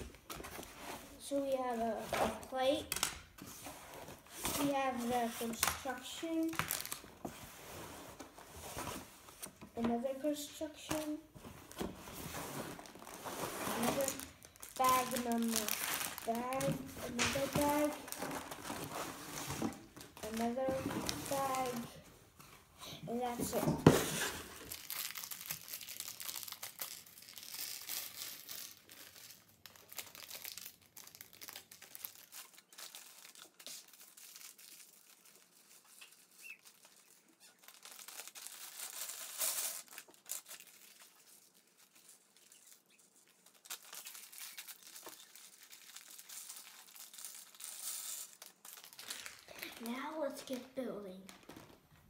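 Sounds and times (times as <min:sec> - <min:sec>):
plastic bags crinkling: 0:04.3 - 0:07.3, 0:10.9 - 0:22.0, 0:23.2 - 0:51.8.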